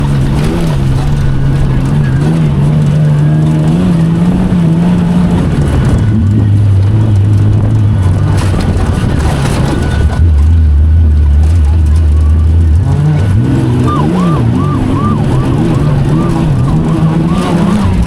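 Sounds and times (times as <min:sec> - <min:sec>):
race vehicle engine running: 0:00.0 - 0:18.0.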